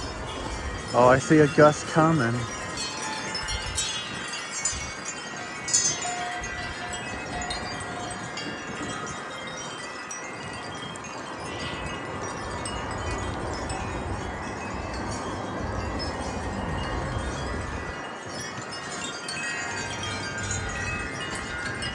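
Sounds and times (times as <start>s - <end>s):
wind chimes ringing: 0.0s - 21.9s
wind rumble on microphone: 0.0s - 21.9s.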